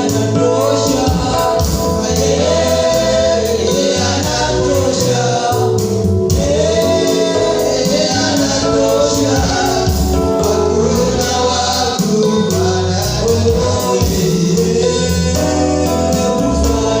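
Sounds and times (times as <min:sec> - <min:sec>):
band with bass line: 0:00.0 - 0:17.0
choir singing: 0:00.0 - 0:17.0.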